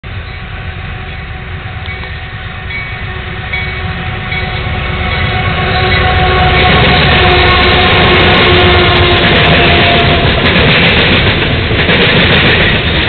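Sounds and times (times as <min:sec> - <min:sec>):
diesel locomotive and freight train rumble: 0:00.0 - 0:13.0.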